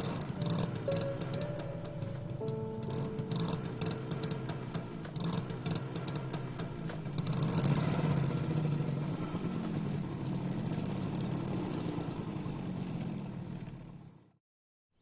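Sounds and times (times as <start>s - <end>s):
motorcycle engine passing: 0.0s - 14.2s.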